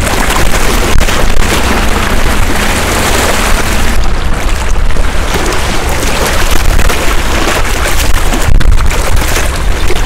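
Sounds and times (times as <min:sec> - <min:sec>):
small waves washing against rocks: 0:00.0 - 0:10.0
wind buffeting microphone: 0:00.0 - 0:10.0.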